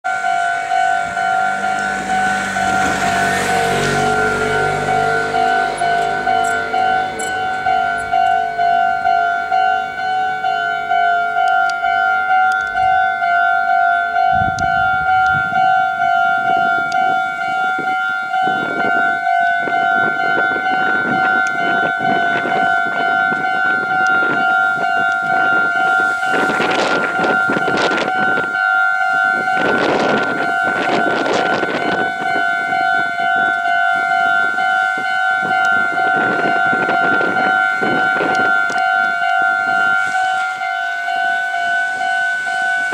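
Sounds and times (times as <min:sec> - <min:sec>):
passing train rail noise: 0:00.0 - 0:42.9
two-tone crossing bell: 0:00.1 - 0:42.9.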